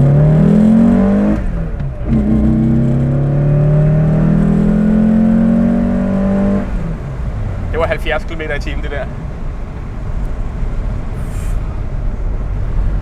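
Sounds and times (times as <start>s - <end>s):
car engine under full throttle: 0.0s - 13.0s.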